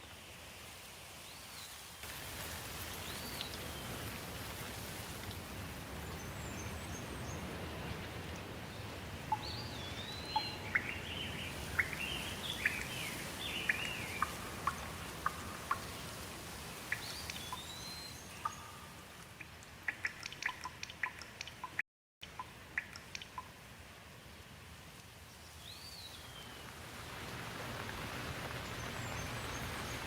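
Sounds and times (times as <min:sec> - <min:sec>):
steady rain falling: 0:00.0 - 0:21.8, 0:22.4 - 0:30.0
songbirds chirping: 0:05.3 - 0:30.0.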